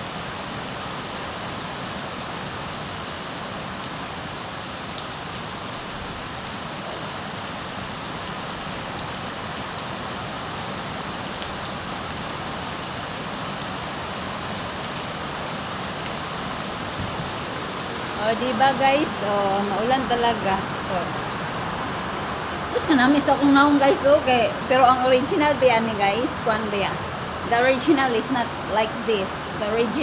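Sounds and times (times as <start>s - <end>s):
rain hissing: 5.6s - 30.0s.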